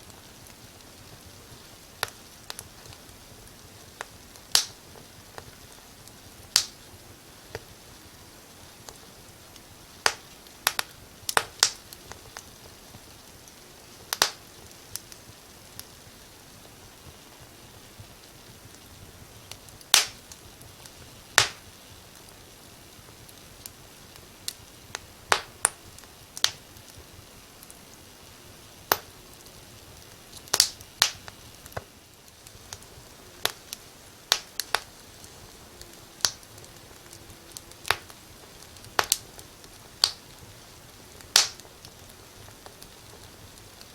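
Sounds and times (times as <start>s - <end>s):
faint steady hiss: 0.0s - 43.9s
wood fire crackling: 0.0s - 43.9s.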